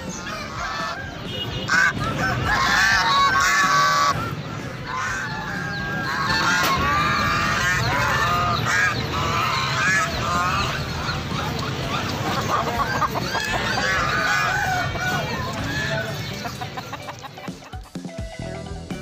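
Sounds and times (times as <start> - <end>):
caged birds and poultry calling: 0.0 - 18.0.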